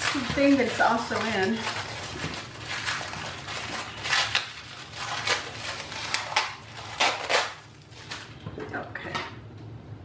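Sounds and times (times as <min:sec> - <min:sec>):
wax casing crackling tears: 0:00.0 - 0:08.4.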